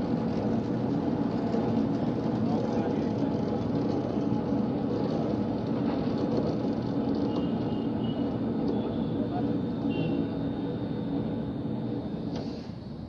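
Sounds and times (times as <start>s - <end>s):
electric hoist motor running: 0.0s - 13.0s.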